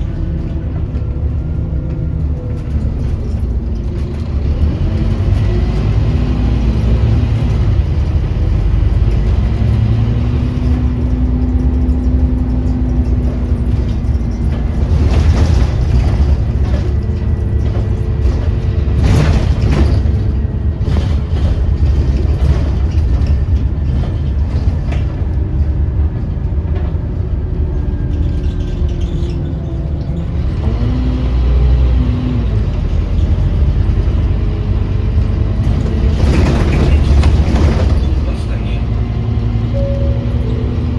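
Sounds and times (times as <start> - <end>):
bus body knocks and rattles: 0.0 - 40.9
bus engine and road rumble: 0.0 - 40.9.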